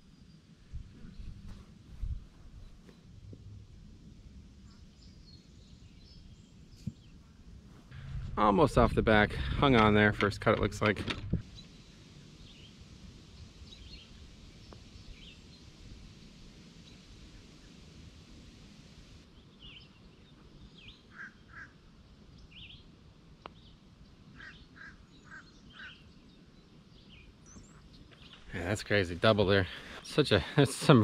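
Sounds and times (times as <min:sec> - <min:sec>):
songbirds chirping faintly: 0:00.0 - 0:31.0.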